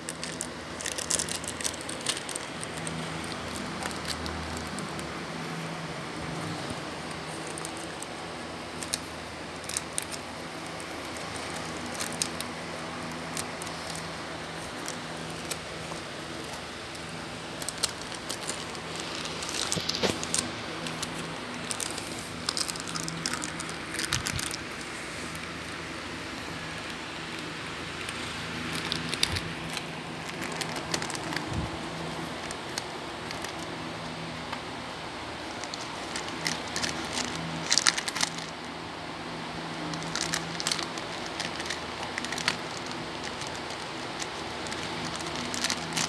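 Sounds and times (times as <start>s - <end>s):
dog chewing plastic wrapper: 0.0s - 34.7s, 35.3s - 46.0s
wrapper crinkling: 0.0s - 34.7s, 35.3s - 46.0s.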